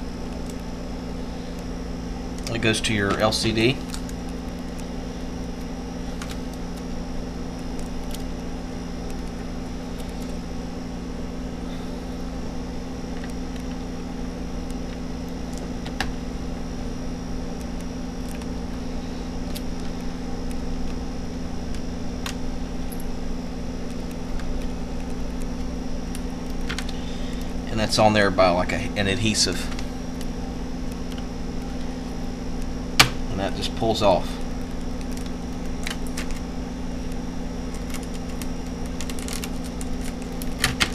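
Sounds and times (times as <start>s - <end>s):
steady background hum: 0.0s - 40.9s.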